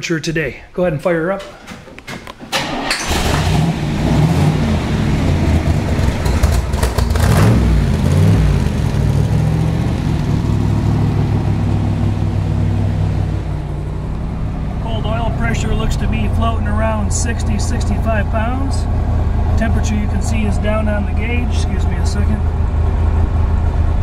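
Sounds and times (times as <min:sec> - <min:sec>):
car engine cranking: 0:01.4 - 0:24.0
car engine revving and idling: 0:03.0 - 0:24.0.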